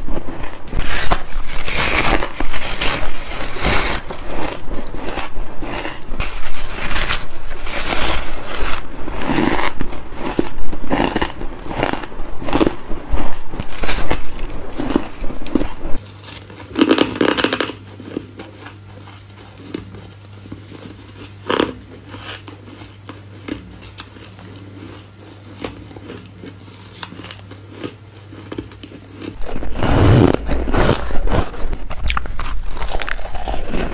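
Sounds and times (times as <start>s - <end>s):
steady low hum: 0.0s - 33.9s
chewing ice crunches: 0.1s - 33.9s.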